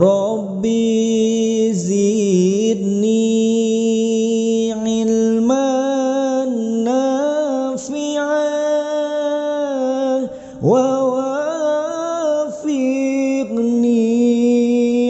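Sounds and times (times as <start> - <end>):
person chanting: 0.0 - 15.0.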